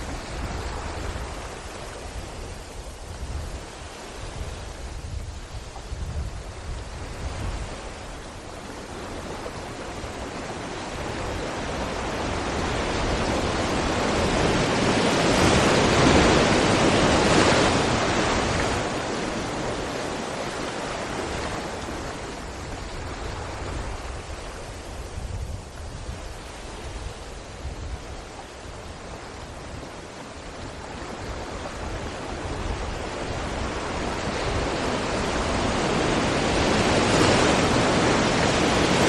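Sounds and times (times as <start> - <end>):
sea waves breaking against rocks: 0.0 - 39.0.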